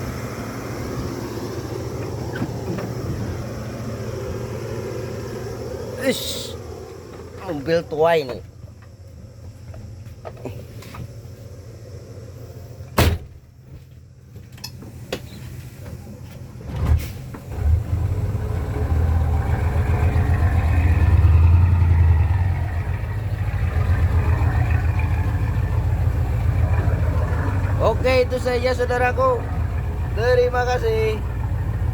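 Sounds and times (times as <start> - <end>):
dump truck engine labouring: 0.0 - 31.9.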